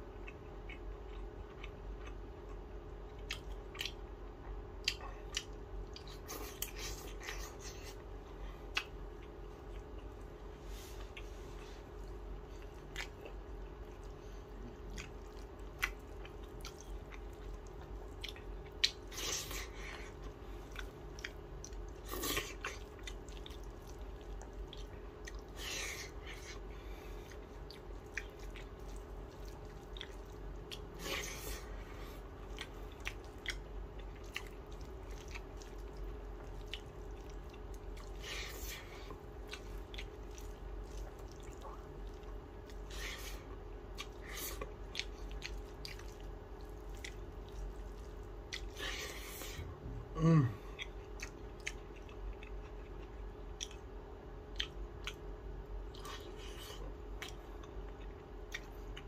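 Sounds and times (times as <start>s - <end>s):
person chewing: 0.1s - 59.0s.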